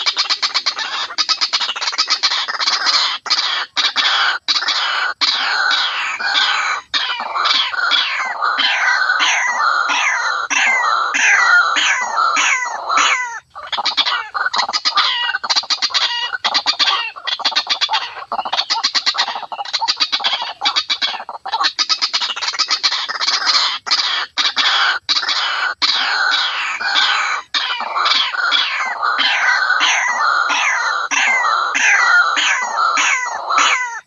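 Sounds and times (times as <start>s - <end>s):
waterhen calling: 0.0s - 34.0s.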